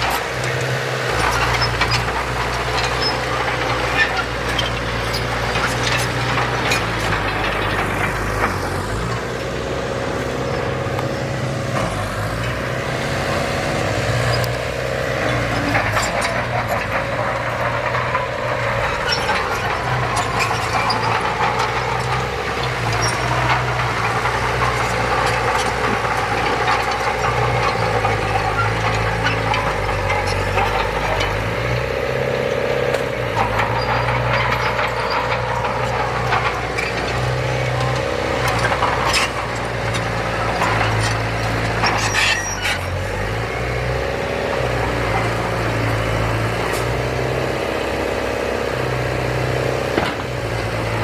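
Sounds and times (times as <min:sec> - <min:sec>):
short clanks and rattles: 0:00.0 - 0:09.4, 0:10.4 - 0:32.0, 0:32.9 - 0:43.3, 0:49.9 - 0:51.0
heavy diesel machinery running: 0:00.0 - 0:51.0.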